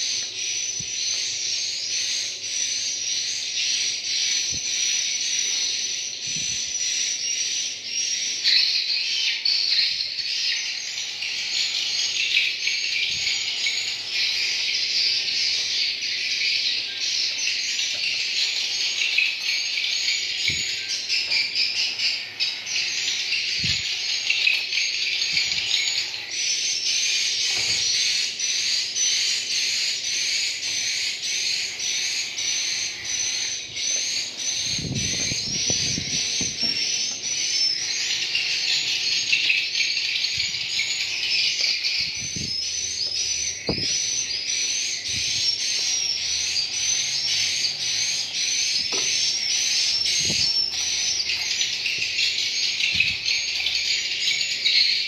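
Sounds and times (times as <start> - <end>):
swiftlets chirping: 9.7 - 55.0.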